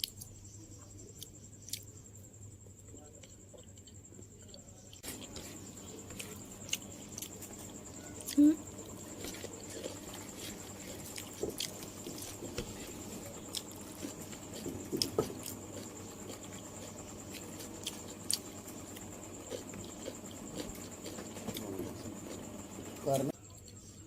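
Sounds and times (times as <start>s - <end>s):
close chewing and crunching: 0.0s - 2.0s, 2.7s - 24.0s.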